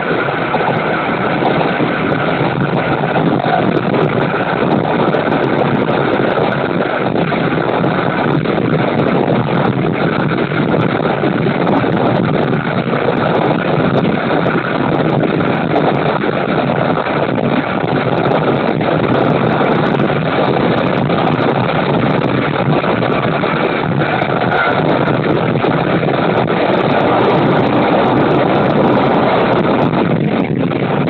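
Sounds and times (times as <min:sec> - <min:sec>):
railcar engine and running noise: 0:00.0 - 0:31.0
wind rushing over microphone: 0:00.0 - 0:31.0.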